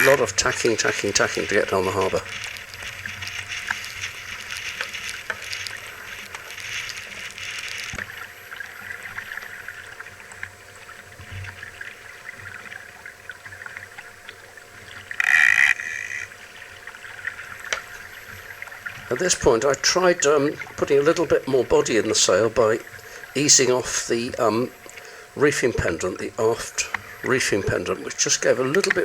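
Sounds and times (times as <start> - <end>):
water splashing along a hull: 0.0 - 29.0.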